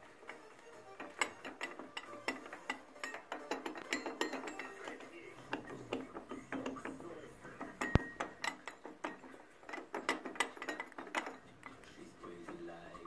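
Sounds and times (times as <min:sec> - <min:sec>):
gears and chain rattling: 0:00.1 - 0:12.8.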